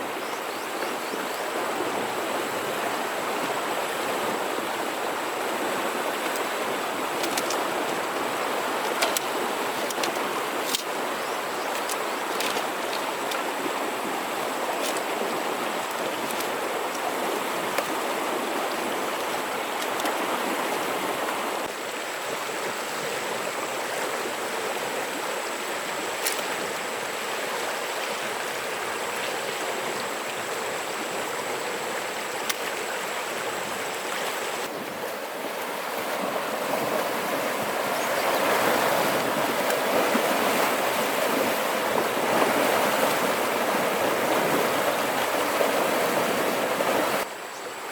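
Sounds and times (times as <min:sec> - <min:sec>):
river water flowing: 0:00.0 - 0:47.9.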